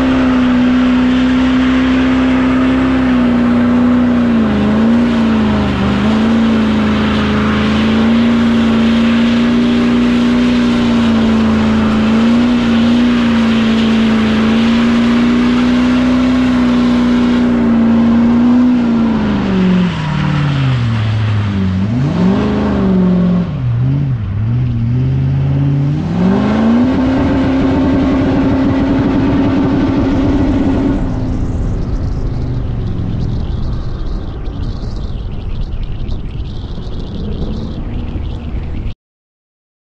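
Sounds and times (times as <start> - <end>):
diesel engine revving: 0.0 - 35.7, 36.4 - 39.0.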